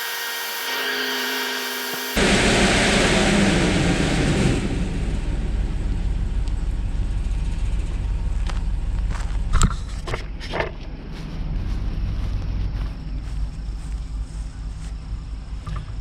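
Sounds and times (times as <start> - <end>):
engine low rumble: 2.2 - 16.0.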